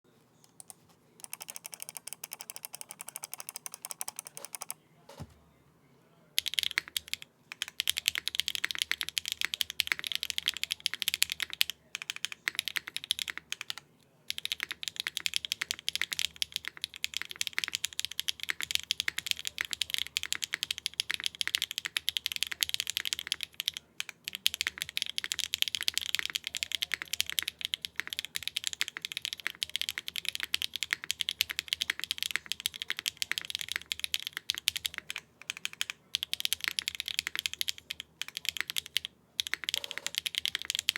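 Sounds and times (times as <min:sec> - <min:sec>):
fast typing on mechanical keyboard: 0:01.2 - 0:04.8, 0:06.4 - 0:40.9.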